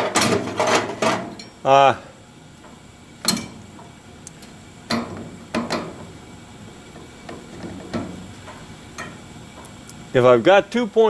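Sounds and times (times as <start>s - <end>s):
gas furnace hum: 0.0s - 11.0s.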